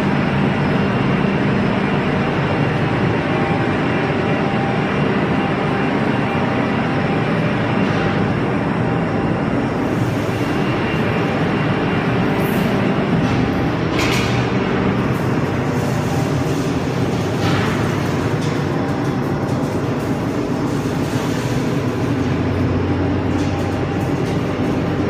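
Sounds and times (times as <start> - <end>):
baler machine hum and rumble: 0.0 - 25.0.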